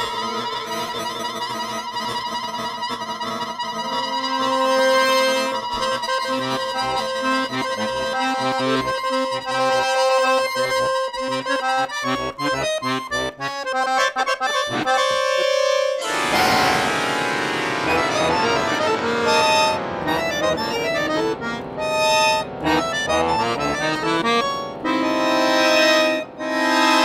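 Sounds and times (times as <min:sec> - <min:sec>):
button accordion playing: 0:00.0 - 0:27.0.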